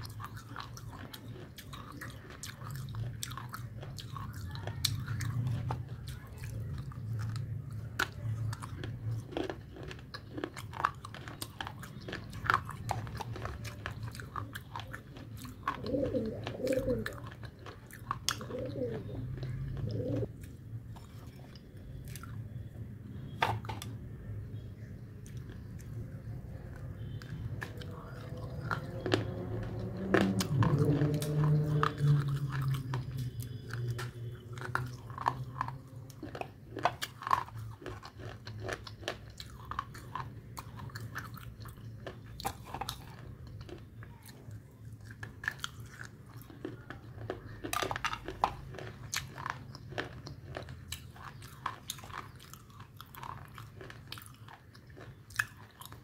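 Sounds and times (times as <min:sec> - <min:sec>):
crunchy food chewing: 0:00.0 - 0:56.0.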